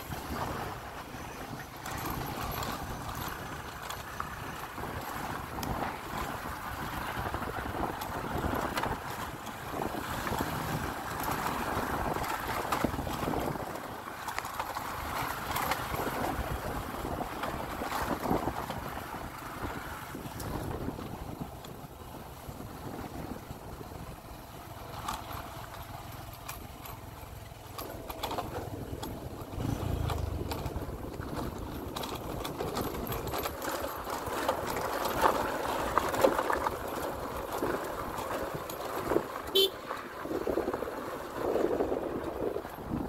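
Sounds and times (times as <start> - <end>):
wind noise on microphone: 0.0 - 13.9, 15.1 - 24.2, 28.4 - 43.0
motorbike engine running: 0.0 - 43.0.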